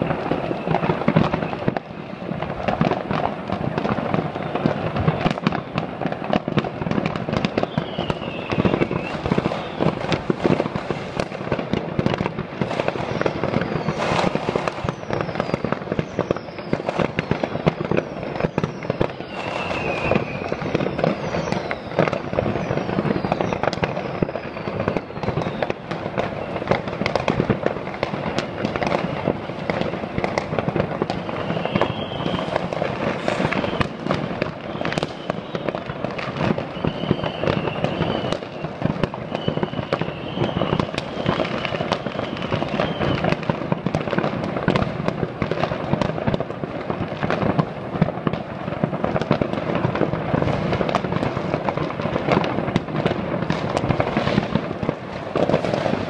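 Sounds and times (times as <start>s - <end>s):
high wavering firework whistles: 0.0s - 43.9s, 50.2s - 56.0s
fireworks crackling bangs: 0.0s - 56.0s.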